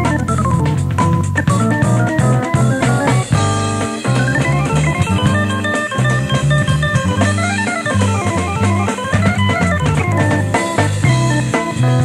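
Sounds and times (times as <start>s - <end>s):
drum kit: 0.0s - 12.0s
electric bass: 0.0s - 12.0s
keyboard fast runs: 0.0s - 12.0s.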